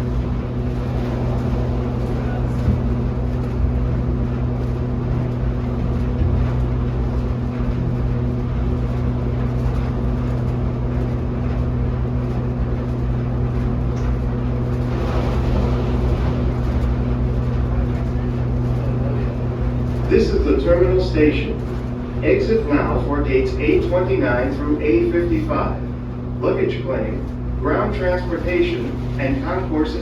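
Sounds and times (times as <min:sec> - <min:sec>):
people-mover tram car drone: 0:00.0 - 0:30.0.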